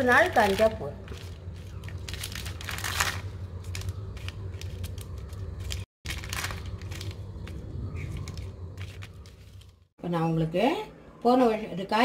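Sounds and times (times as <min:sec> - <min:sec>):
plastic sheet crinkling: 0:00.0 - 0:09.9
low steady hum: 0:00.0 - 0:12.0.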